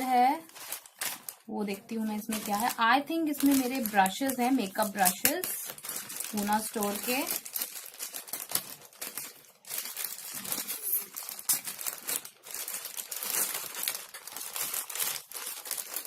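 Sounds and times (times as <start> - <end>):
packaging crinkling and tearing: 0.1 - 16.0.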